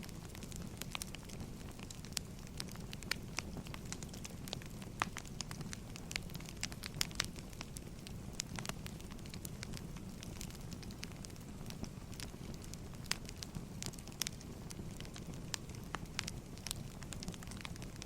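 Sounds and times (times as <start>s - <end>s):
fire low rumble: 0.0s - 18.0s
firewood popping and snapping: 0.2s - 18.0s.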